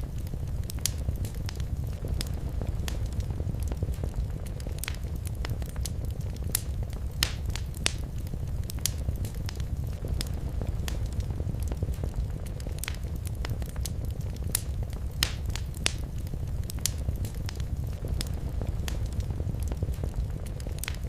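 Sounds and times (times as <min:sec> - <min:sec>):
fire pops and snaps: 0:00.0 - 0:21.0
flames rumbling: 0:00.0 - 0:21.0.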